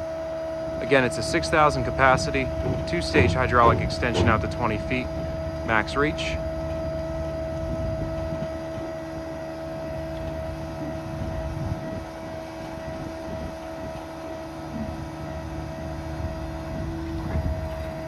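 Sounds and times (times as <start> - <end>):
diesel engine rumbling: 0.0 - 18.0
hydraulic pump whine: 0.0 - 18.0.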